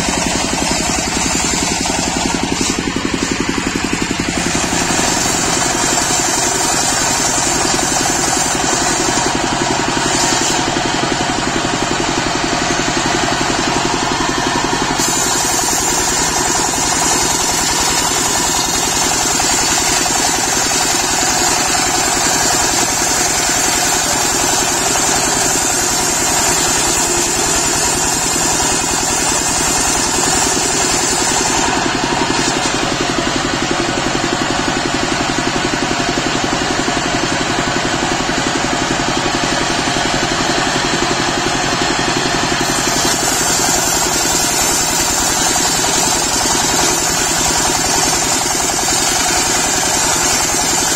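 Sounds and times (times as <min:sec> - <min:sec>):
saw blade ripping log: 0:00.0 - 0:35.3, 0:40.3 - 0:50.9
sawmill engine running: 0:00.0 - 0:50.9.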